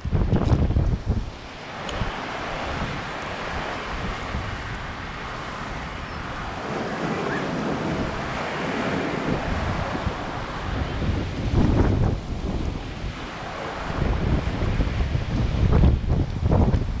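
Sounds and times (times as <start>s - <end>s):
surf washing up a beach: 0.0s - 17.0s.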